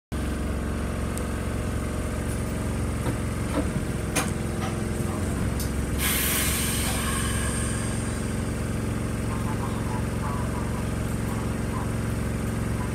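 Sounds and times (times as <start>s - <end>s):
tram equipment humming: 0.2s - 12.9s.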